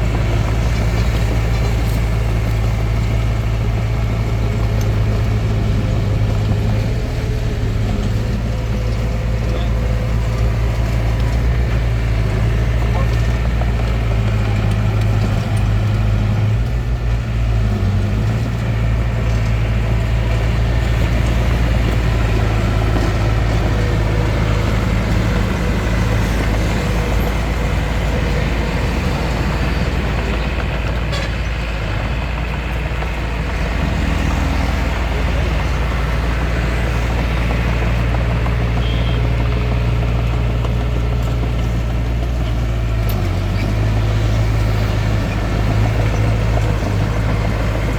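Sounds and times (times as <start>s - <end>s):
bulldozer engine droning: 0.0s - 47.9s.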